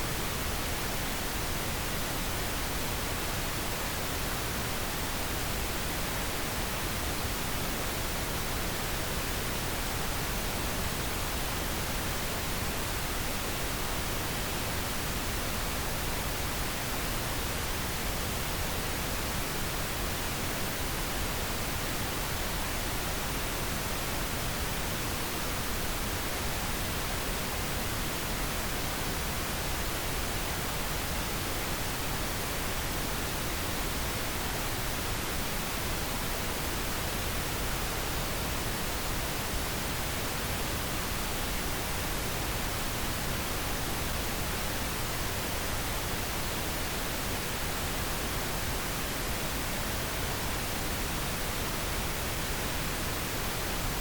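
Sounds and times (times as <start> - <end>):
pink noise hiss: 0.0 - 54.0.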